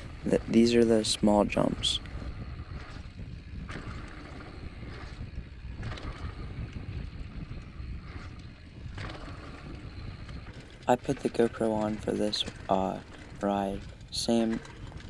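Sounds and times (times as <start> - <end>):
bike tyres rumbling and rattling: 0.0 - 15.0
wind rushing over microphone: 0.0 - 15.0.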